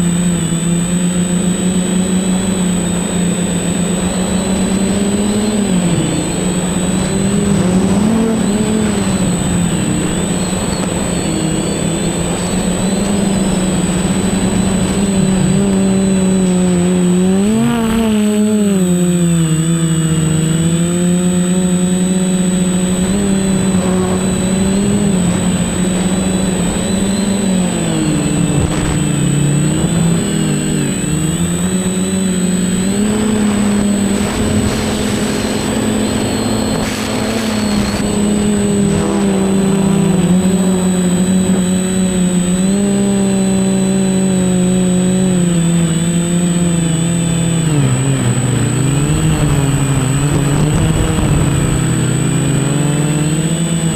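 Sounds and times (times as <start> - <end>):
high-pitched whine: 0.0 - 53.9
quadcopter propellers buzzing: 0.0 - 53.9.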